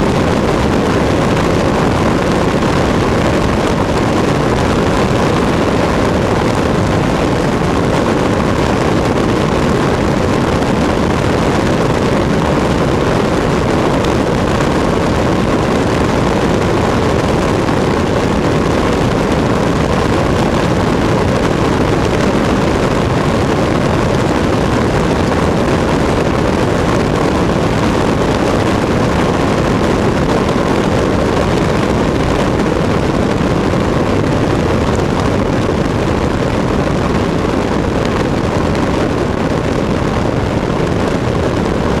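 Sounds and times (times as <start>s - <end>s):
aircraft engine drone: 0.0s - 42.0s
loud rush of wind: 0.0s - 42.0s.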